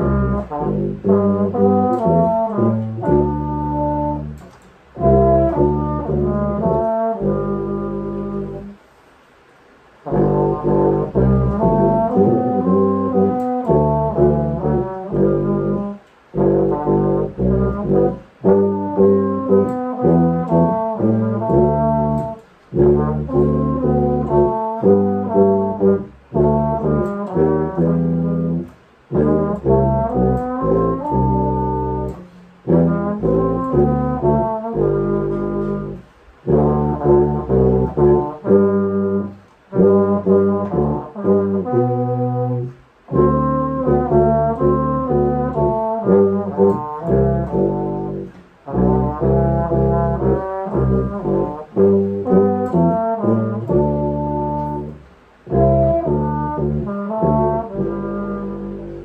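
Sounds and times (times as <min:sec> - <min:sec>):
tuba bass line: 0:00.0 - 0:08.8, 0:10.0 - 0:59.0
trombone melody: 0:00.0 - 0:09.0, 0:10.0 - 0:59.0.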